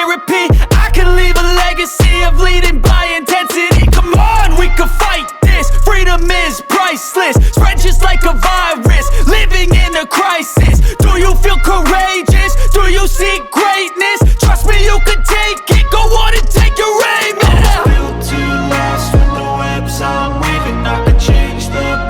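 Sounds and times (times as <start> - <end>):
hip hop music with heavy bass beat: 0.0 - 22.0.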